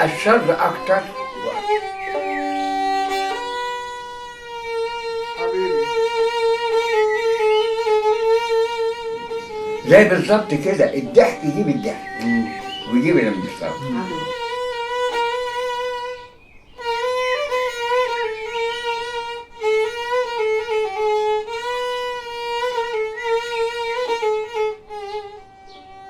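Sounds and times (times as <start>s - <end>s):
solo violin melody: 0.0s - 26.0s.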